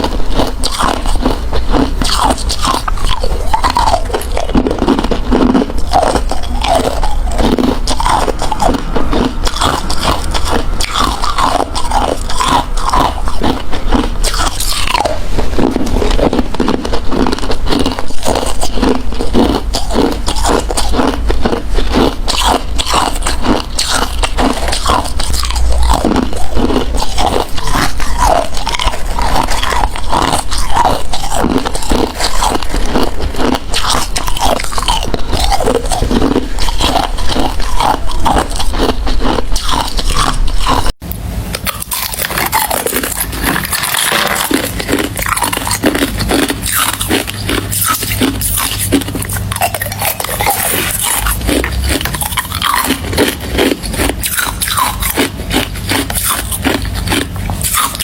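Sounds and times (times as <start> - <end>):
person crunching ice: 0.0 - 41.0, 41.6 - 58.0.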